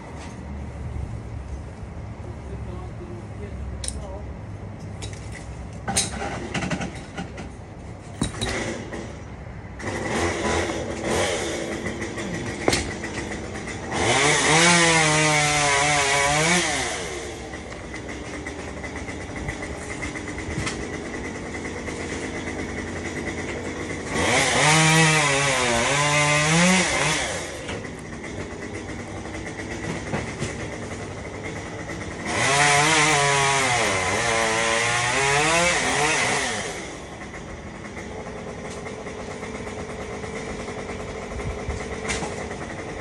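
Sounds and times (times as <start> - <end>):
chainsaw cutting wood: 8.2 - 43.0
chainsaw engine humming: 8.5 - 43.0.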